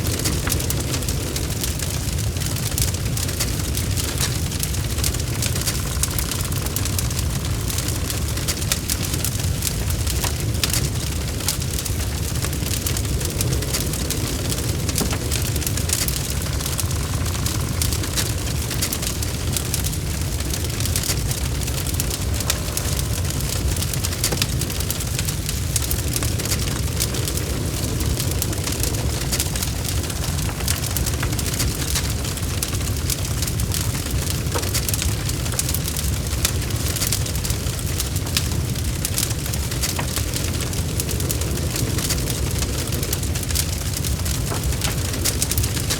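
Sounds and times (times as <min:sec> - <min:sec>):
burning logs crackling and popping: 0:00.0 - 0:45.9
low rumble of flames: 0:00.0 - 0:45.9.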